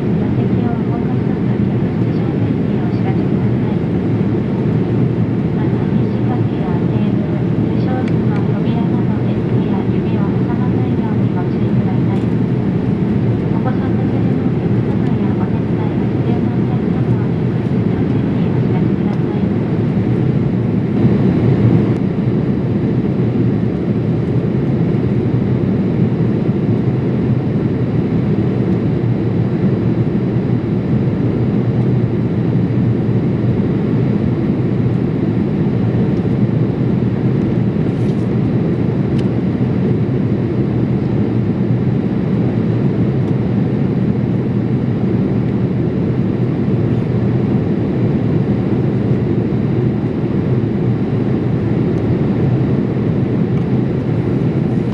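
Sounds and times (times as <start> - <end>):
airliner cabin noise: 0.0 - 54.9.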